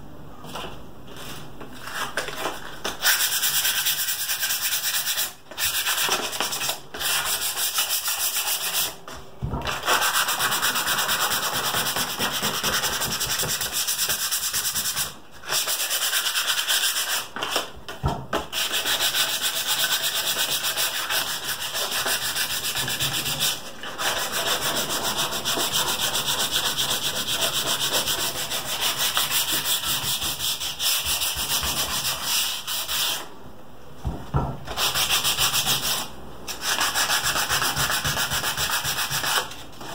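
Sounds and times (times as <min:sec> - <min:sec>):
sandpaper rasping on wood: 0:03.0 - 0:09.0, 0:09.8 - 0:17.3, 0:18.5 - 0:33.2, 0:34.8 - 0:39.5.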